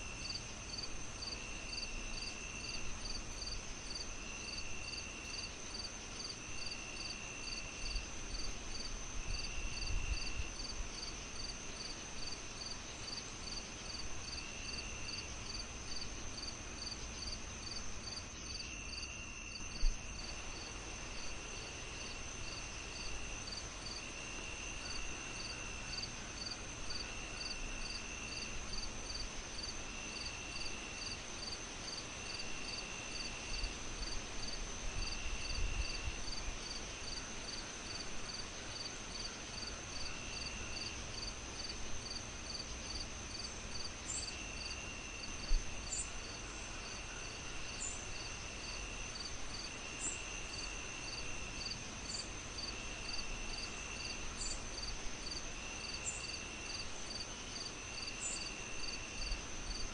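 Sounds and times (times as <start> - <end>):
crickets chirping: 0.0 - 59.9
insect trill: 0.1 - 59.9.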